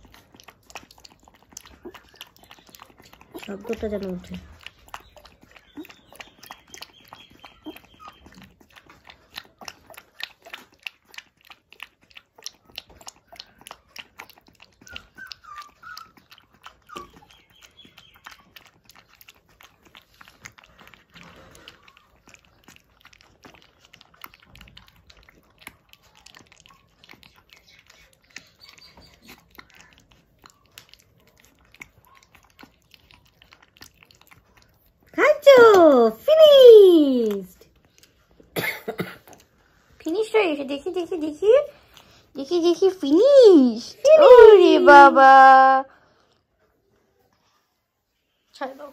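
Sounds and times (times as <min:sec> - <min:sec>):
puppy lapping milk from bowl: 0:00.0 - 0:44.9.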